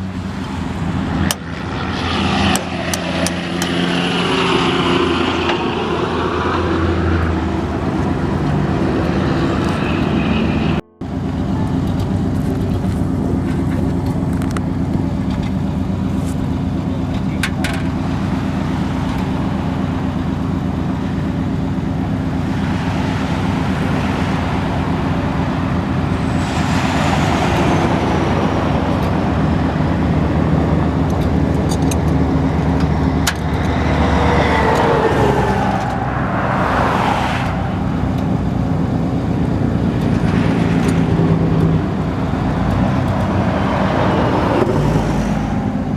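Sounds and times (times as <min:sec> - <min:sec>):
high whine: 0:00.0 - 0:45.9
road traffic engine hum: 0:00.0 - 0:45.9
vehicles passing: 0:00.0 - 0:45.9.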